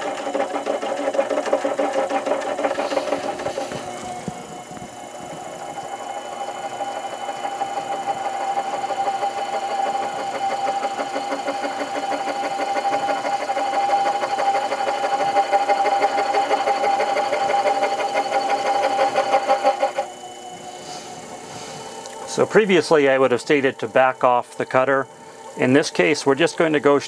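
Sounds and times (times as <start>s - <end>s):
lathe motor whine with flutter: 0.0s - 27.0s.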